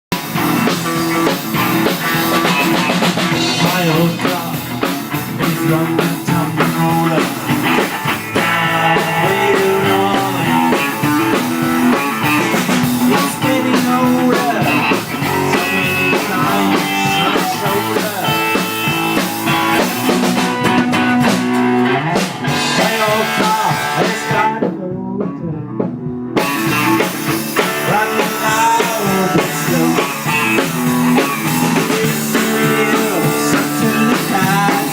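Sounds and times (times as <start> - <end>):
drum kit playing: 0.1 - 34.9
electric guitars: 0.1 - 34.9.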